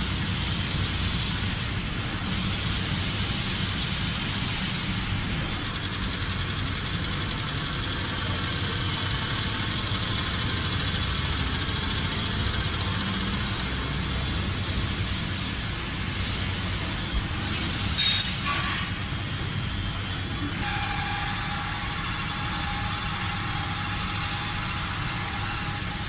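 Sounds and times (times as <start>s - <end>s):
industrial machinery whining: 0.0s - 26.0s.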